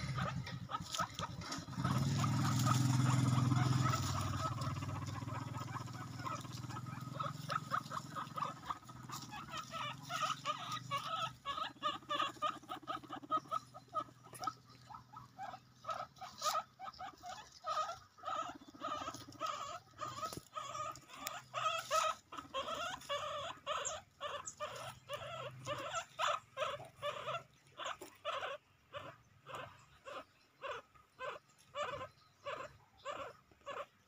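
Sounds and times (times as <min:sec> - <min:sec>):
guinea pigs squeaking: 0:00.0 - 0:34.0.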